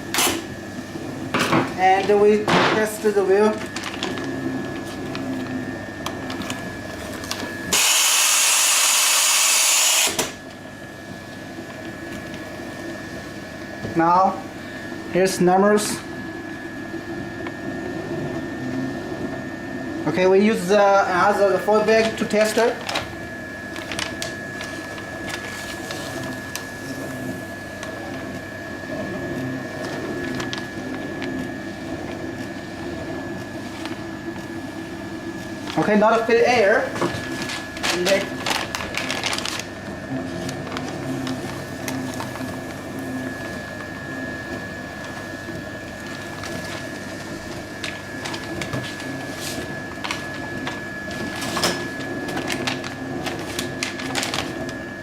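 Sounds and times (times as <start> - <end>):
machine motor whine: 0.0 - 55.0.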